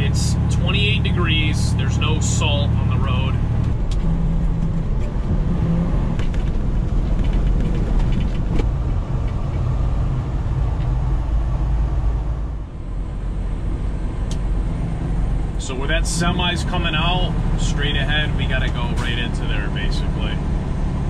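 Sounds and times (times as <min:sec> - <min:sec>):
diesel engine drone: 0:00.0 - 0:21.0
road noise: 0:00.0 - 0:21.0.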